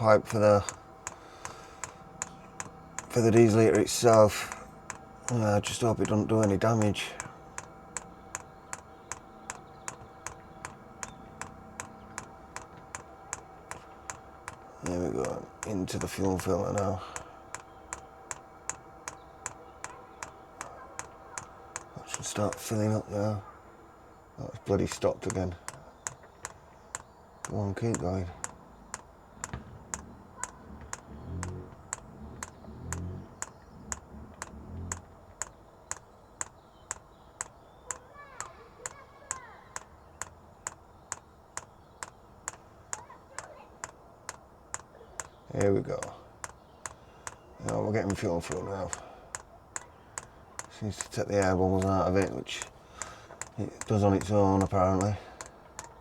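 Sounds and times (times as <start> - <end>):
fuel pump ticking: 0.0 - 56.0.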